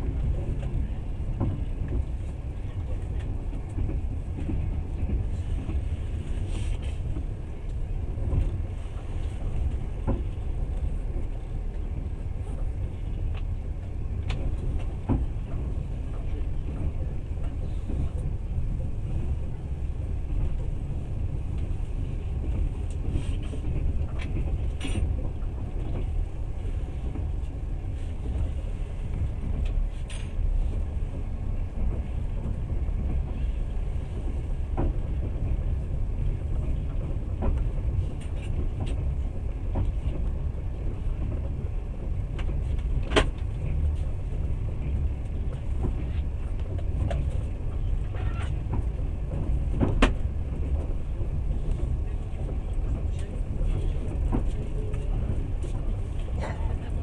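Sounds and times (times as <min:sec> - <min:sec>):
train rumble inside carriage: 0:00.0 - 0:57.0.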